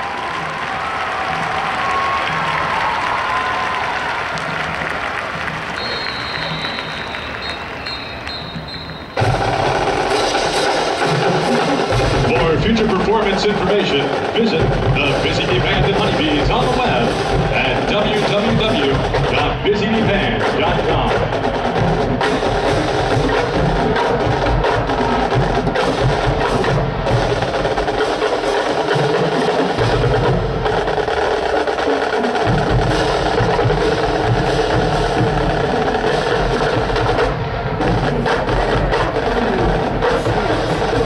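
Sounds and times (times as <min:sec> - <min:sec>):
drumline marching cadence: 0:00.0 - 0:41.0.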